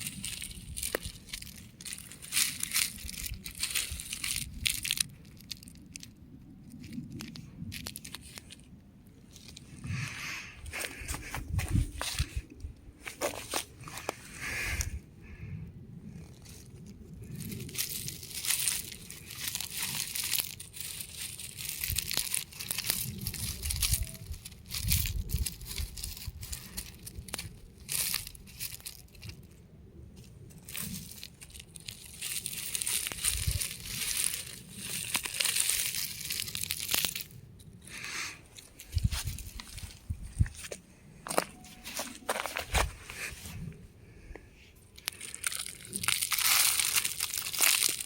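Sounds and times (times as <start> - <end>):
rock crumbling and crunching: 0.0 - 15.0, 16.1 - 29.5, 30.2 - 43.7, 45.0 - 48.0.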